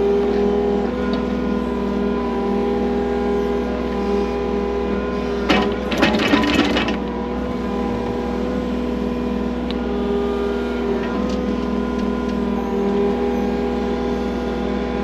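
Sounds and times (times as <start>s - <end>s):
excavator engine running: 0.0s - 15.0s.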